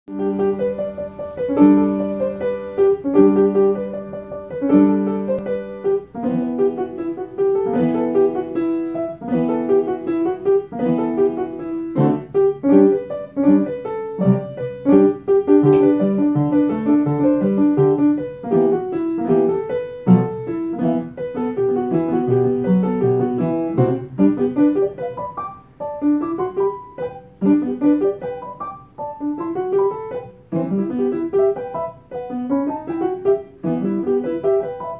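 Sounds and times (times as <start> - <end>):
upright piano playing: 0.1 - 34.9.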